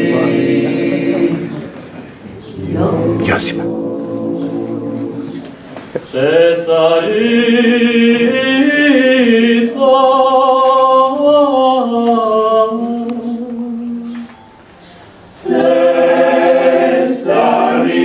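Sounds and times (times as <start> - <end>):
group singing a cappella: 0.0 - 14.3, 15.3 - 18.0.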